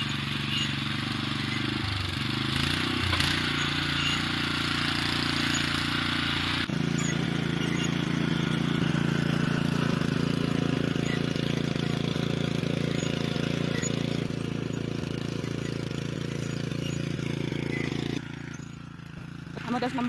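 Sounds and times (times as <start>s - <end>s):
tiller engine running: 0.0s - 20.0s
tines churning soil: 0.0s - 20.0s.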